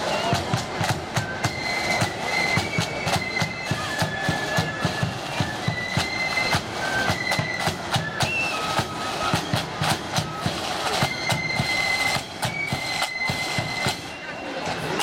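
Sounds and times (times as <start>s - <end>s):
side drums and bass drum: 0.0s - 14.1s
marching band high melody: 0.0s - 15.0s.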